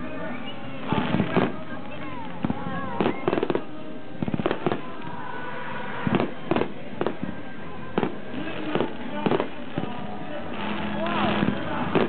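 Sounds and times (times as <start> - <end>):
fireworks bursting with bangs: 0.8 - 5.2, 5.9 - 12.0.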